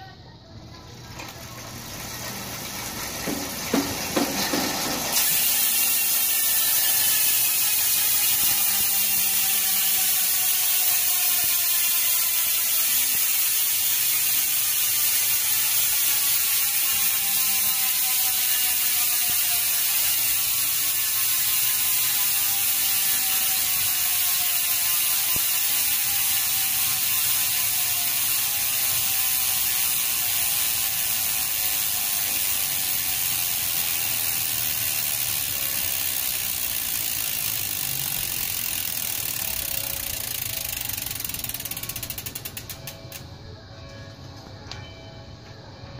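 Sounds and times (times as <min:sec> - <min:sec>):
bicycle freehub ratchet buzz: 0:00.7 - 0:43.3.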